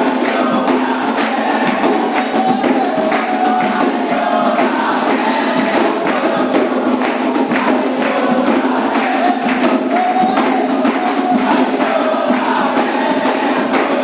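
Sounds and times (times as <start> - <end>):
group singing a chant: 0.0 - 14.0
struck percussion: 0.0 - 14.0.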